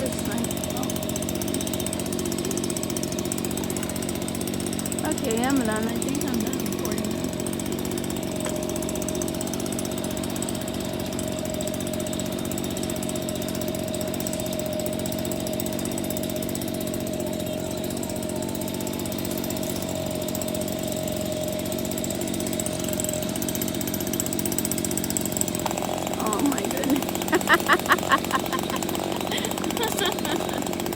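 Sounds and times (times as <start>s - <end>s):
small engine running: 0.0s - 30.9s.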